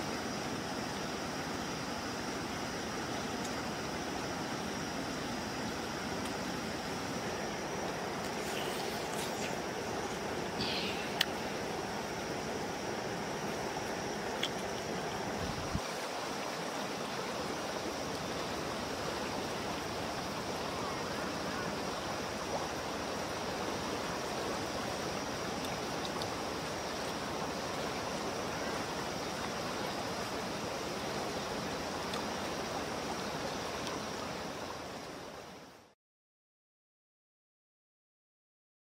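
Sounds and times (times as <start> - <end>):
rocky stream flowing: 0.0 - 35.9.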